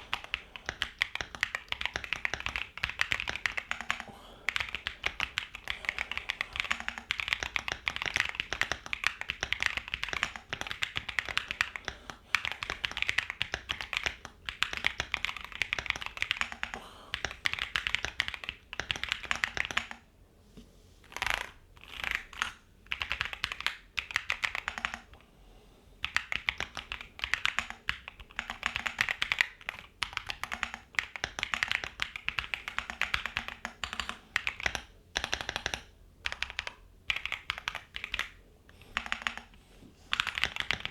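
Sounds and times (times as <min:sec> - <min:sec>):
mechanical keyboard typing: 0:00.0 - 0:20.0, 0:21.1 - 0:25.2, 0:26.0 - 0:40.9.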